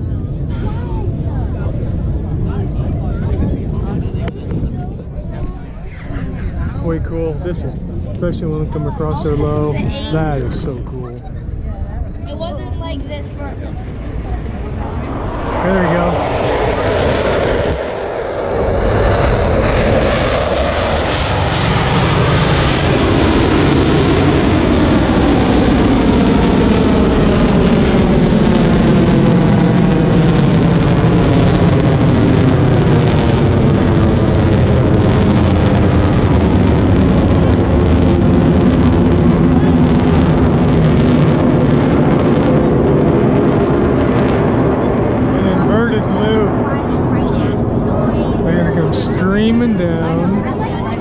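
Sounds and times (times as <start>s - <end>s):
jets flying past: 0.0s - 51.0s.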